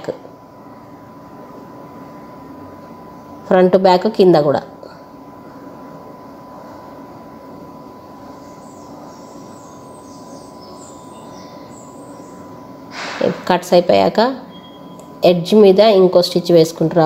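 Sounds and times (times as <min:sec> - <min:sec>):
thin steady whine: 0:00.0 - 0:17.0.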